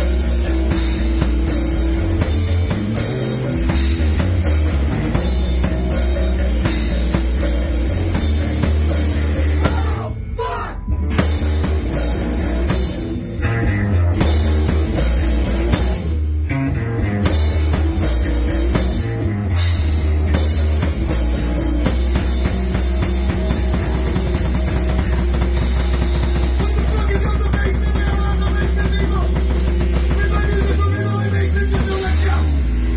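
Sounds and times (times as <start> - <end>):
bass guitar: 0.0 - 32.9
drum kit: 0.0 - 32.9
electric guitar: 0.0 - 32.9.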